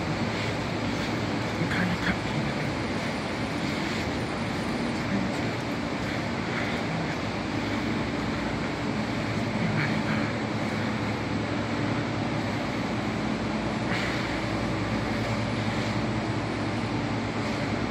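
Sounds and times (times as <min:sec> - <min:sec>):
electric train rumbling: 0:00.0 - 0:17.9.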